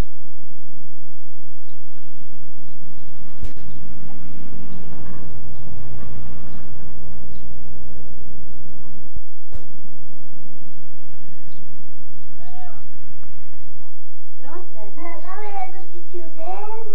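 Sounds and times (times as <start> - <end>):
low rumble with hiss: 0.0 - 16.9.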